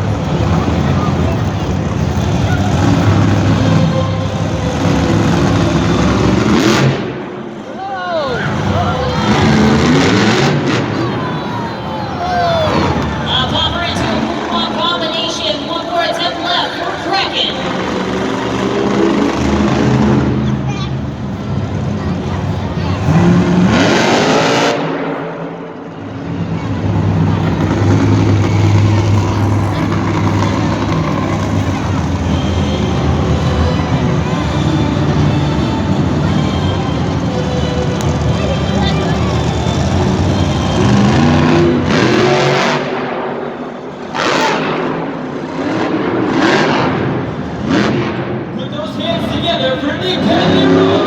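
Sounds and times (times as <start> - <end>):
truck engine revving hard: 0.0 - 51.0.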